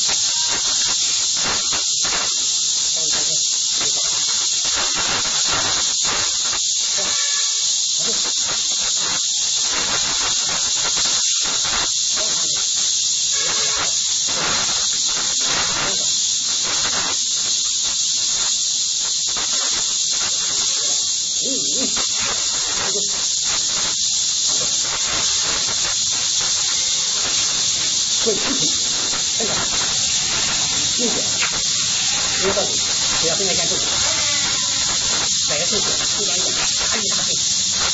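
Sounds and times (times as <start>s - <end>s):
loud steady high hiss: 0.0s - 37.9s.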